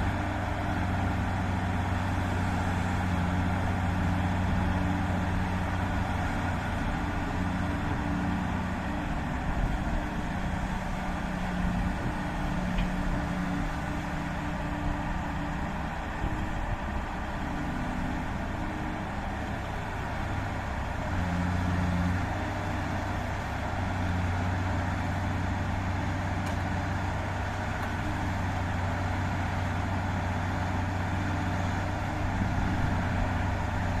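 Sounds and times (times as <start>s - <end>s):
heavy diesel engines humming: 0.0s - 34.0s.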